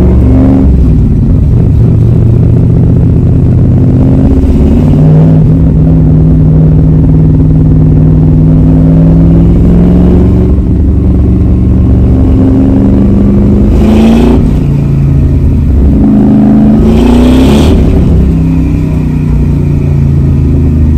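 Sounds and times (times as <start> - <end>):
engine revving with intake rush: 0.0 - 20.9
v eight engine pulling: 0.0 - 20.9.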